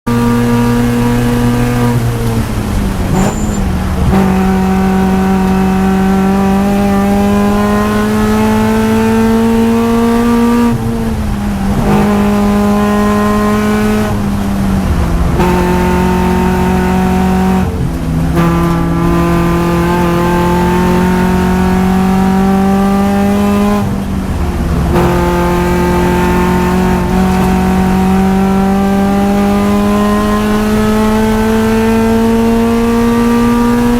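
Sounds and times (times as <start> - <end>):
car engine revving hard: 0.1 - 33.9.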